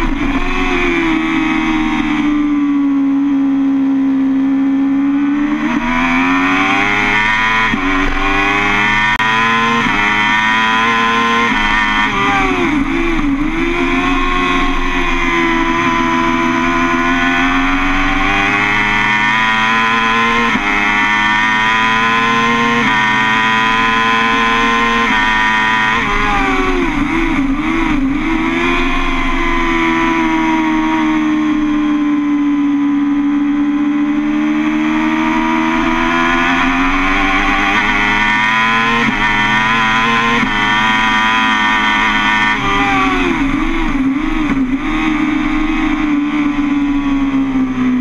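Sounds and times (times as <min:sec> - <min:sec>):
motorcycle engine at hard throttle: 0:00.0 - 0:48.0.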